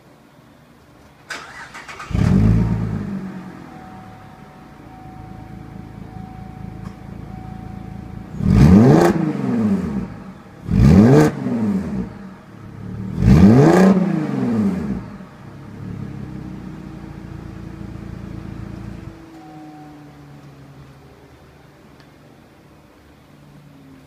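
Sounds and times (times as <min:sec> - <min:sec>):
car engine idling and revving: 0:01.3 - 0:24.0.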